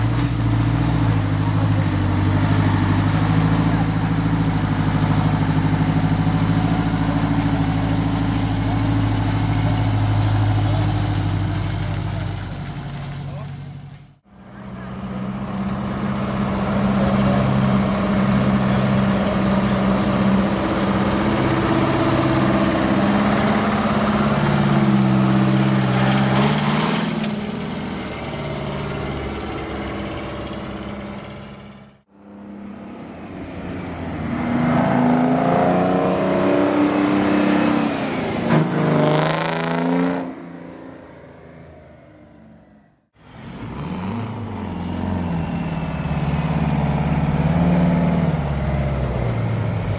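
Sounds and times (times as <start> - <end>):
truck engines revving: 0.0 - 49.9.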